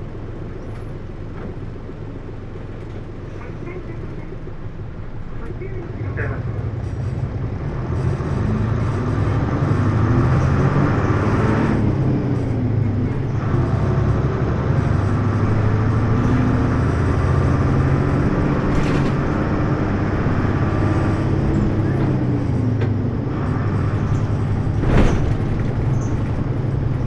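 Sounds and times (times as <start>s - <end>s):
bus diesel engine humming: 0.0s - 27.0s.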